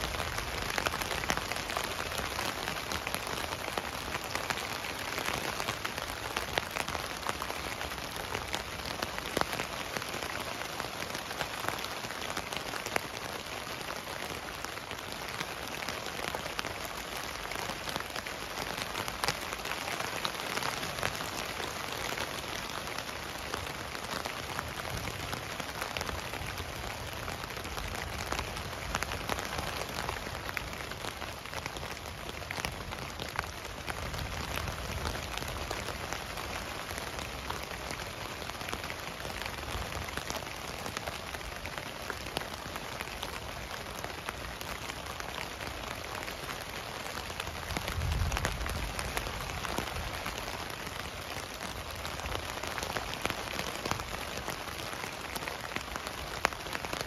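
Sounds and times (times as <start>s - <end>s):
rain hissing on a tent: 0.0s - 57.0s.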